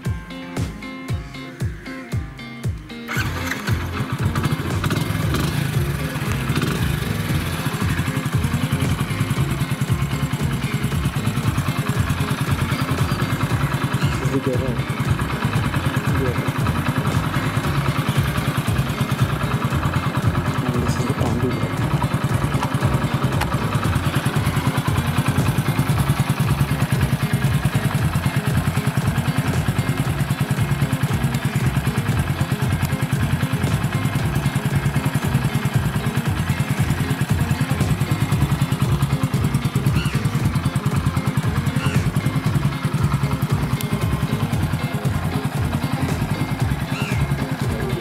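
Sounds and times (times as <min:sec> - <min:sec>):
motorcycle engine idling: 0:00.0 - 0:48.0.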